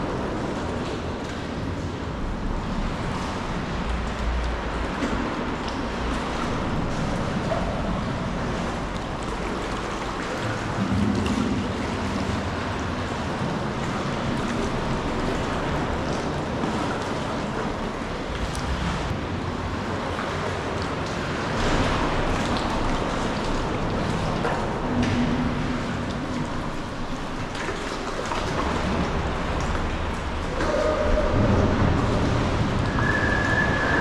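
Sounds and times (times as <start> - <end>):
sea water splashing around kayak: 0.0 - 34.0.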